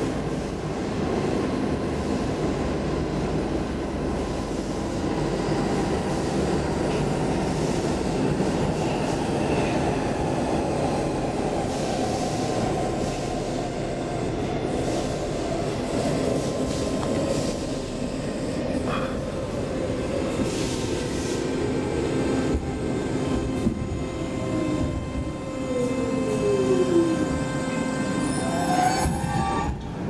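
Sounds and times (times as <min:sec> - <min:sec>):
subway wheels rumbling on rail: 0:00.0 - 0:30.0.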